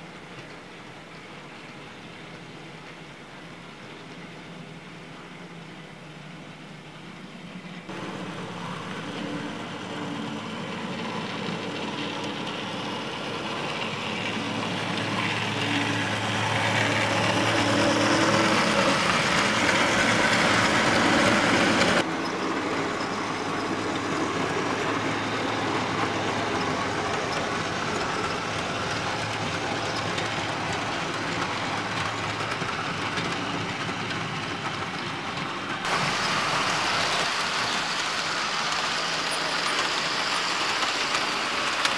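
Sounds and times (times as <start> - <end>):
model train rumbling on track: 0.0 - 41.9.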